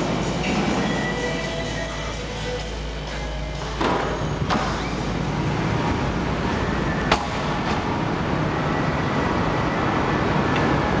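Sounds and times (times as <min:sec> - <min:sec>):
car park rumble: 0:00.0 - 0:11.0.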